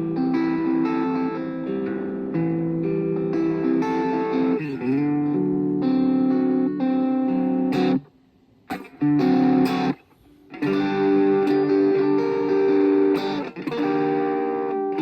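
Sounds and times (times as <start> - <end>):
electric guitar chords: 0.0 - 8.1, 8.7 - 15.0.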